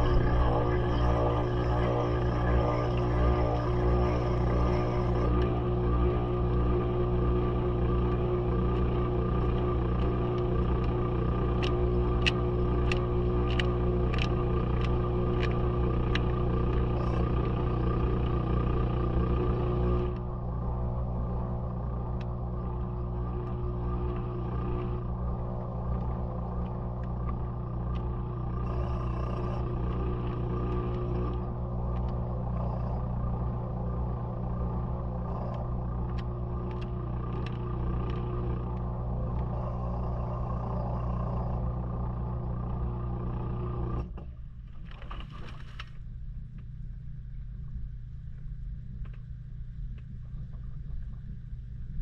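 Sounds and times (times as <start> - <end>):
washing machine hum and rumble: 0.0 - 52.0.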